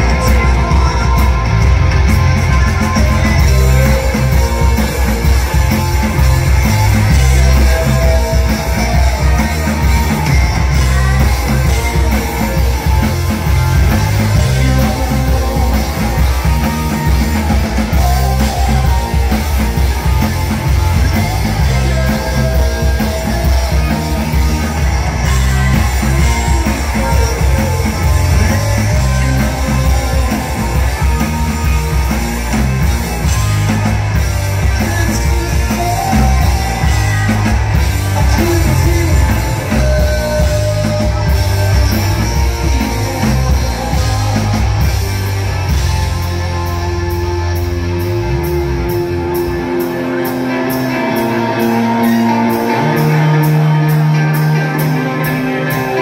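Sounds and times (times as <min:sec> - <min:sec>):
bass guitar: 0:00.0 - 0:56.0
drums: 0:00.0 - 0:56.0
electric guitars: 0:00.0 - 0:56.0
person singing: 0:00.0 - 0:56.0.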